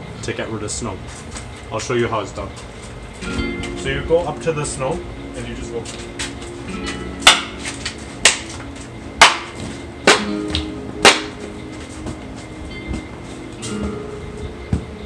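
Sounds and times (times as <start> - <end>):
background music: 2.9 - 15.0.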